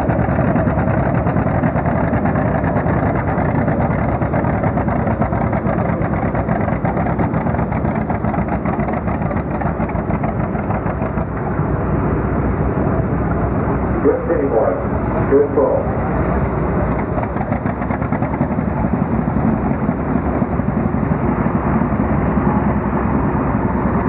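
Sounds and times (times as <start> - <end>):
tractor engines running: 0.0 - 24.0.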